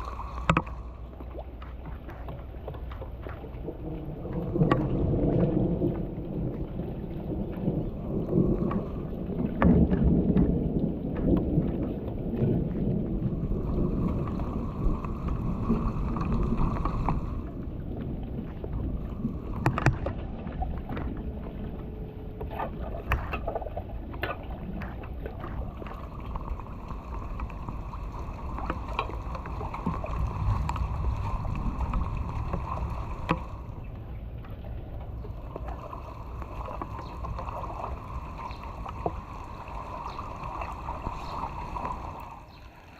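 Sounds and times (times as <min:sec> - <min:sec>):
water rushing and churning: 0:00.0 - 0:42.9.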